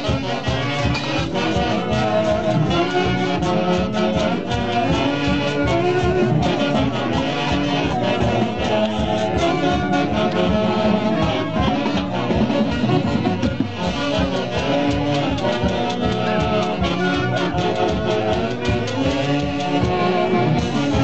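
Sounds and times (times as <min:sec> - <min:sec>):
live band with saxophones: 0:00.0 - 0:21.0.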